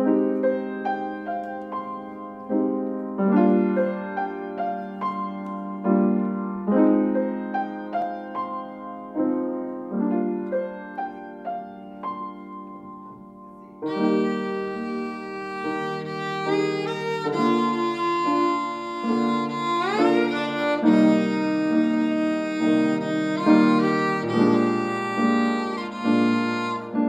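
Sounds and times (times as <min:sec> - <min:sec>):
grand piano chords and melody: 0:00.0 - 0:27.0.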